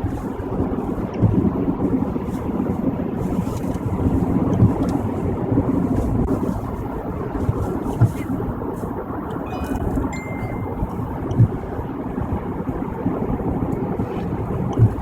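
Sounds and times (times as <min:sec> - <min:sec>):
car driving at highway speed: 0:00.0 - 0:15.0.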